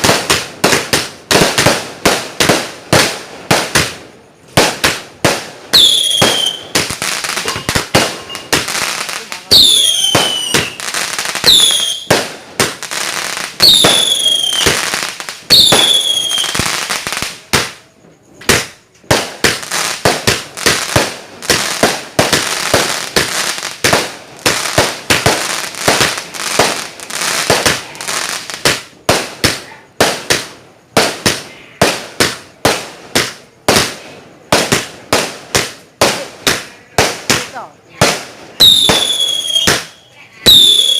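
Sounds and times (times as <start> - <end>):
firework cracking bangs: 0.0 - 40.9
firework whistling shots: 0.0 - 40.9.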